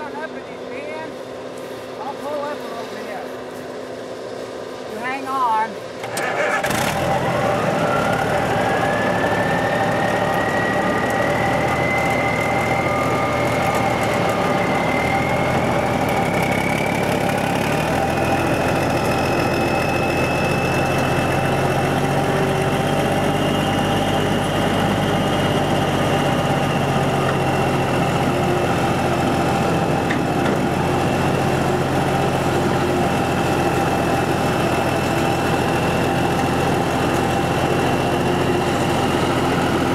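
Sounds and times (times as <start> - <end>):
harvest machine running: 0.0 - 39.9.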